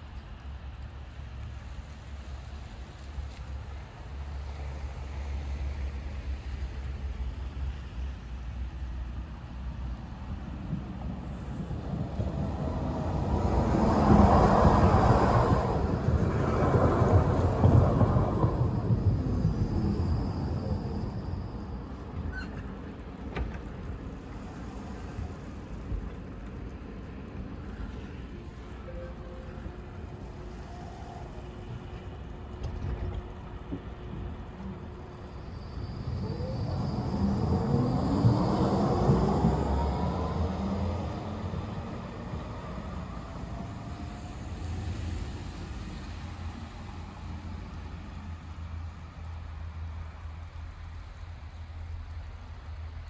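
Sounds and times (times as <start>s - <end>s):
approaching tram: 0.0s - 53.0s
wind rumble on microphone: 0.0s - 53.0s.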